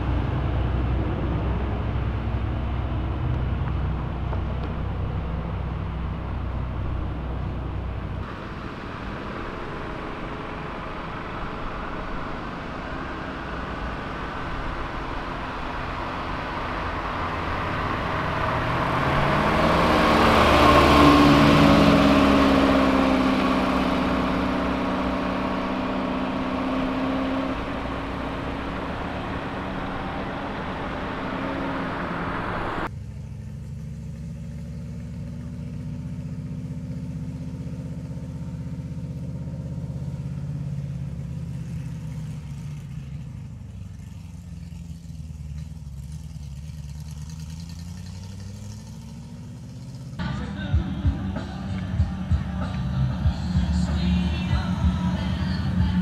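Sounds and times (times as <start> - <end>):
car accelerating past: 0.0 - 56.0
low engine running: 0.0 - 56.0.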